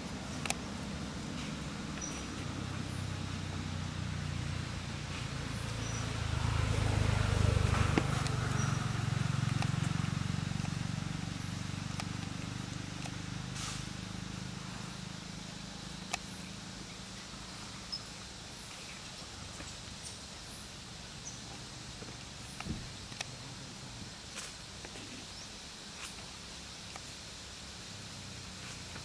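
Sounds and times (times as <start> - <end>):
low motor rumble: 0.0 - 25.5.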